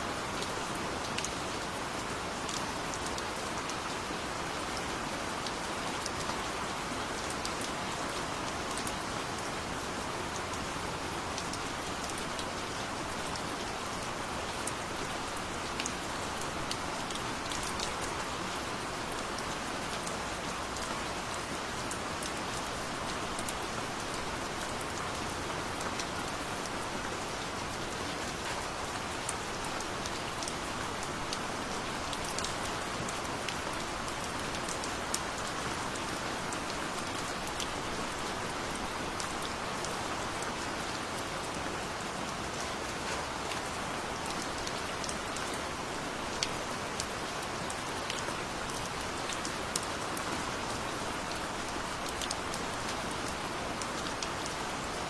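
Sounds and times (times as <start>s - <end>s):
steady rain hiss: 0.0s - 55.0s
raindrops ticking on a surface: 0.2s - 55.0s.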